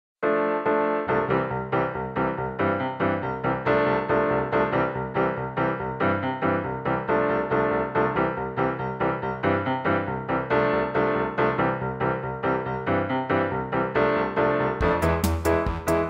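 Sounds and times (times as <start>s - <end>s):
keyboard melody: 0.2s - 16.0s.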